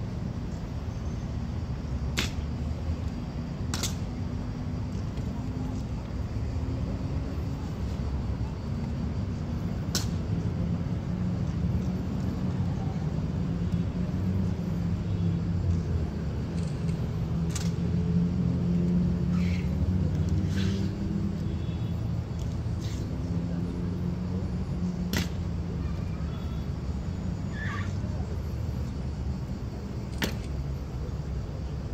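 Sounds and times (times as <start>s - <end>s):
engine drone: 0.0s - 31.9s
road traffic: 0.0s - 31.9s.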